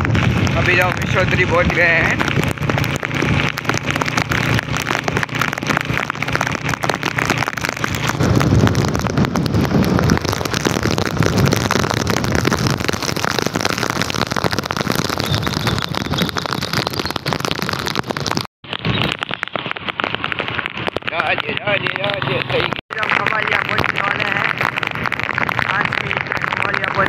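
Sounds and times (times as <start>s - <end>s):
wind on microphone: 0.0s - 22.8s
heavy rain pattering: 0.0s - 27.0s
vehicle rumble: 0.0s - 27.0s.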